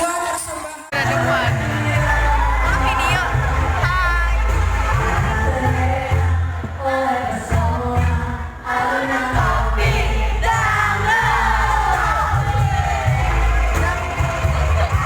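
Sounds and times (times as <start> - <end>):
pop music with singing: 0.0 - 15.0
heavy bass beat: 0.9 - 15.0.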